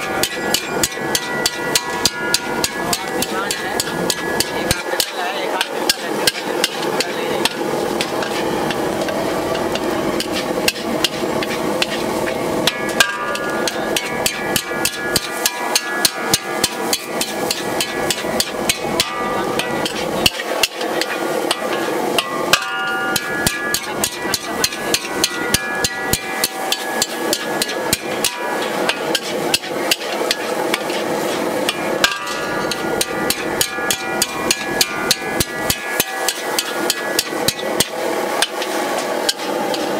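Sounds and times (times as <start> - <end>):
metal spatula clanking in wok: 0.0 - 39.9
wok ringing: 0.0 - 39.9.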